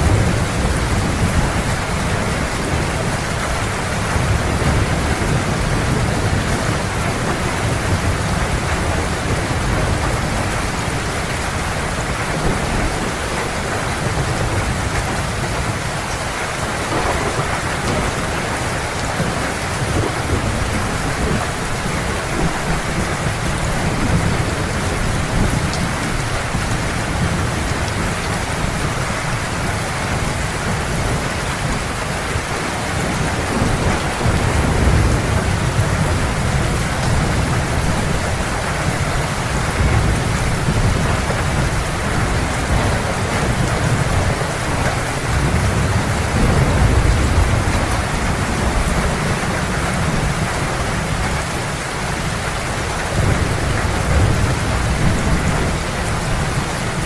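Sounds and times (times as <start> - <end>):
heavy rain pouring: 0.0 - 57.0
low rolling thunder: 0.0 - 57.0.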